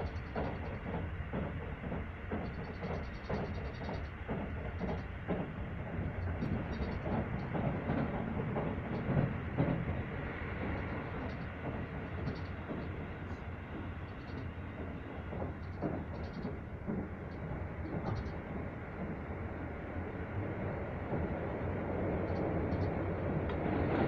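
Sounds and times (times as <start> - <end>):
clacks over rail joints: 0.0 - 24.0
train wheels rumbling on rail: 0.0 - 24.0.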